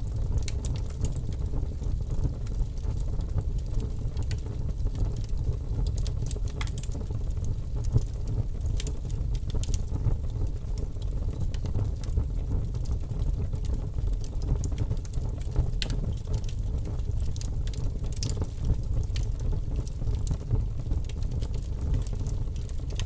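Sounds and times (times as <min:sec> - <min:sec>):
low rumble of flames: 0:00.0 - 0:23.0
wood crackling and popping: 0:00.0 - 0:23.0.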